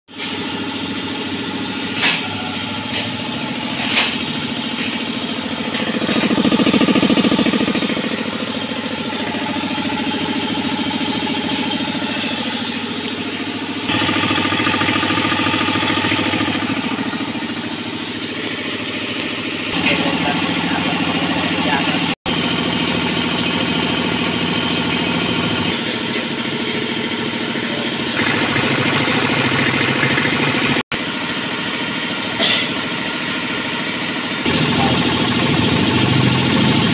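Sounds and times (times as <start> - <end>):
piston air compressor running: 0.1 - 36.9.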